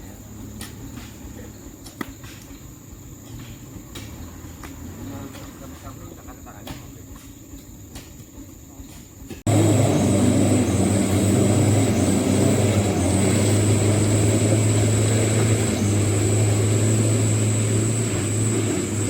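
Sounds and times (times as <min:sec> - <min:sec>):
truck diesel engine running hard: 0:00.0 - 0:08.6, 0:09.2 - 0:19.0.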